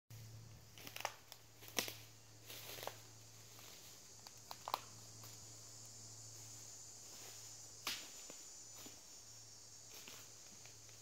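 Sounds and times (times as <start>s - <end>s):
insect hiss: 0.1s - 11.0s
footsteps on dry leaves: 0.6s - 11.0s.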